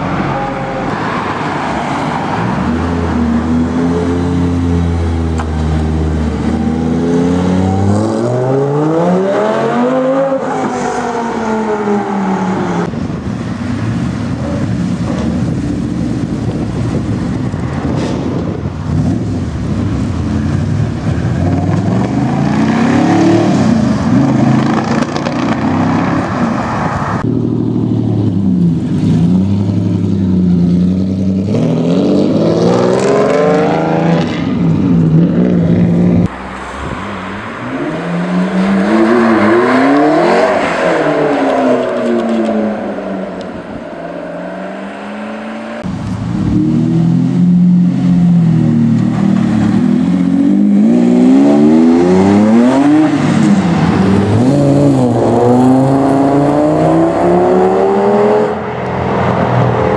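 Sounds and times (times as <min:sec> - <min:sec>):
sports car engines accelerating: 0:00.0 - 0:59.9.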